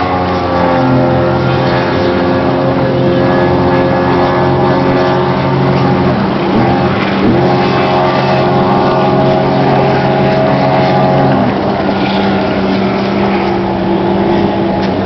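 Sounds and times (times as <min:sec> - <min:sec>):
speedboat engines running hard: 0:00.0 - 0:15.0.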